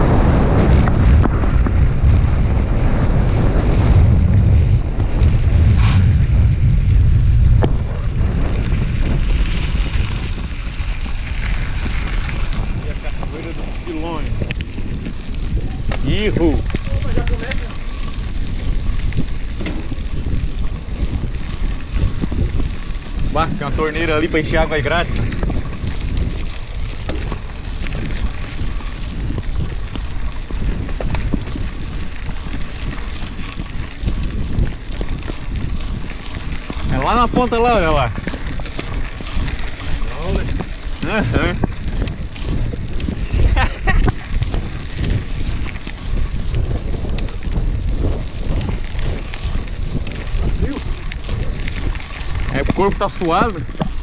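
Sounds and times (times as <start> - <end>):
wind buffeting microphone: 0.0 - 54.0
small clicks and ticks: 9.9 - 54.0.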